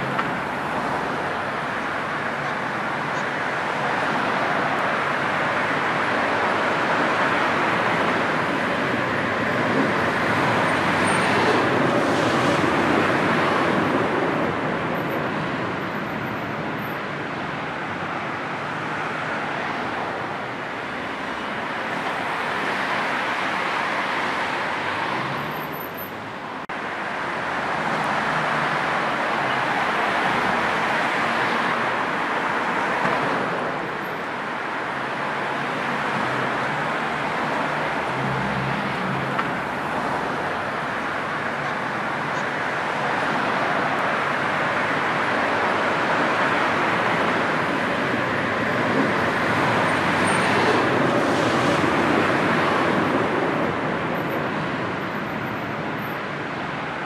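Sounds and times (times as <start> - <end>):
dense motorway traffic: 0.0 - 57.0.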